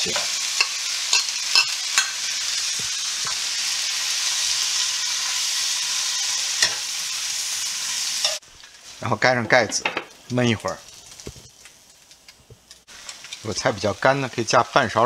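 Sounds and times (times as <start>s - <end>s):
greens sizzling in a wok: 0.0s - 15.0s.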